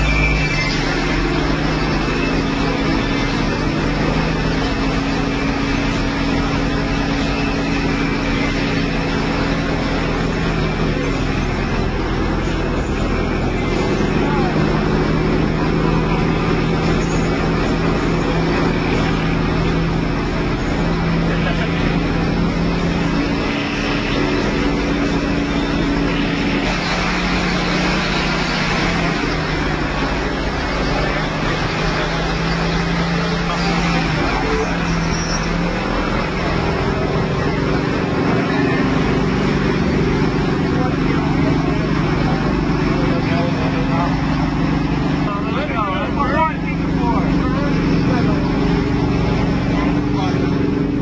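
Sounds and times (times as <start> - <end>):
hums changing pitch: 0.0 - 51.0
loud subwoofer bass: 0.0 - 51.0
mechanical drone: 0.0 - 51.0.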